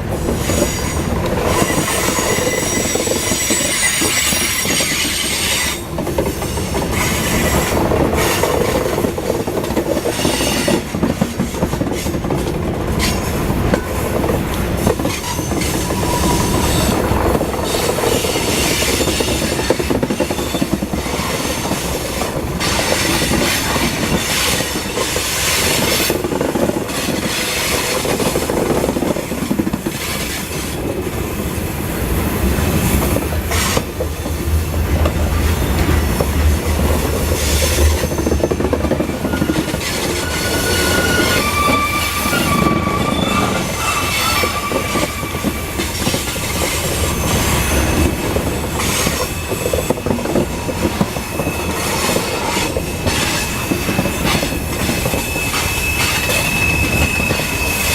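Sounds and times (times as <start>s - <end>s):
wheels clicking over rail joints: 0.0s - 31.2s, 32.5s - 57.9s
freight train rolling past: 0.0s - 57.9s
wheels squealing: 0.2s - 9.0s, 13.0s - 28.6s, 32.7s - 57.9s.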